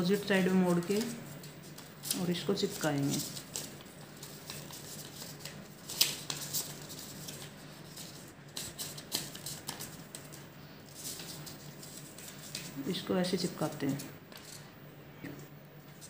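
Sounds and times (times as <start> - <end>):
faint steady hum: 0.0 - 16.0
paper rustling and crackling: 0.2 - 12.9, 13.7 - 14.7.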